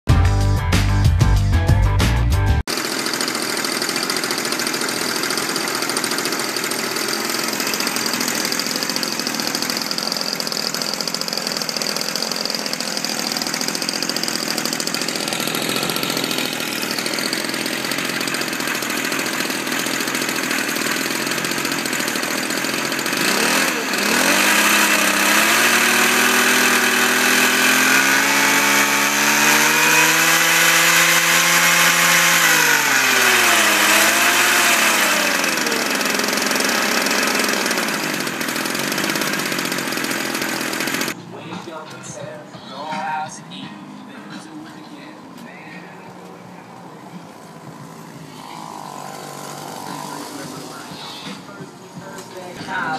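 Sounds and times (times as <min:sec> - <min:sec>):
two-stroke engine revving: 0:00.2 - 0:41.3, 0:46.1 - 0:52.9.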